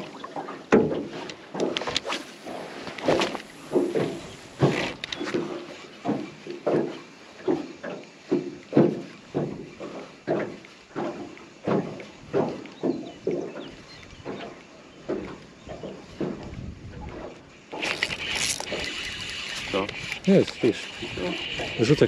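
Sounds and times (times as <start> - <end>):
oars knocking in rowlocks: 0.0 - 22.0.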